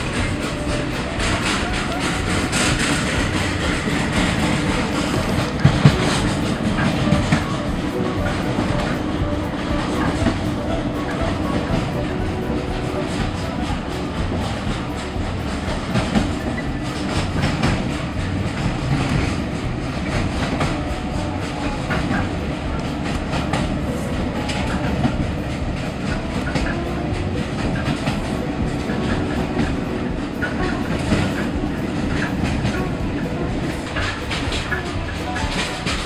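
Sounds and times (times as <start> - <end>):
track clicks and knocks: 0.0 - 36.0
train wheels rumbling on rails: 0.0 - 36.0.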